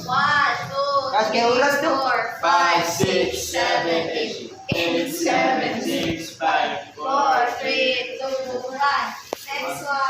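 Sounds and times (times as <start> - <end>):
voices singing together: 0.0 - 10.0.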